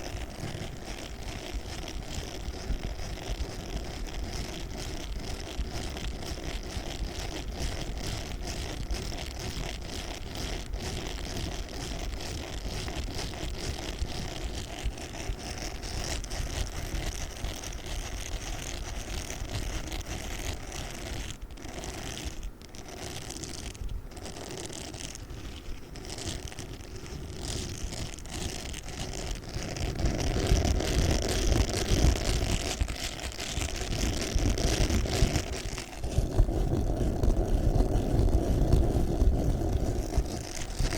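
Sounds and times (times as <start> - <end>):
sponge being squeezed and rubbed: 0.0 - 40.9.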